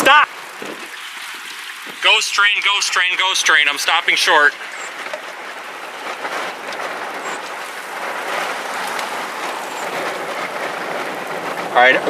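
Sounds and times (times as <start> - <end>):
storm wind and rain: 0.0 - 12.0.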